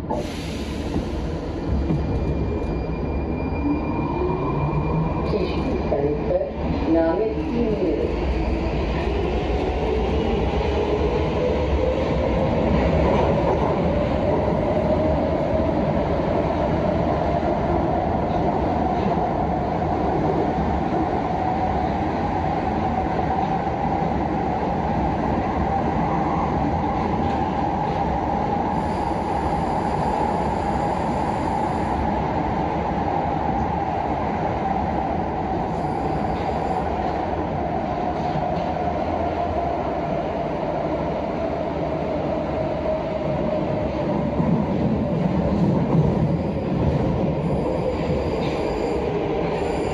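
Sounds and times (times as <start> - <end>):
train wheels rumbling on rail: 0.0 - 3.6, 4.4 - 49.9.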